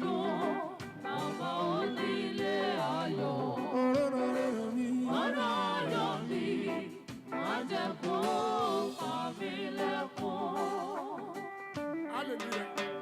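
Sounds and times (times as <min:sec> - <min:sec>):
group singing in harmony: 0:00.0 - 0:11.5.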